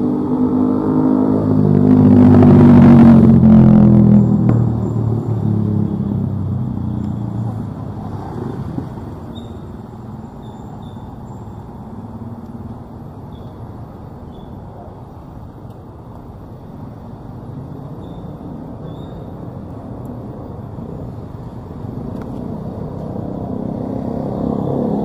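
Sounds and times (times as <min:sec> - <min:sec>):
motorcycle passing: 0:00.0 - 0:14.9, 0:17.0 - 0:25.0
road traffic rumble: 0:00.0 - 0:25.0.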